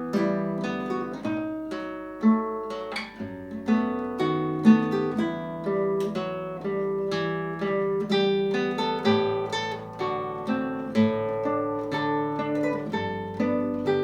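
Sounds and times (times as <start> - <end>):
fingerstyle classical guitar: 0.0 - 14.0.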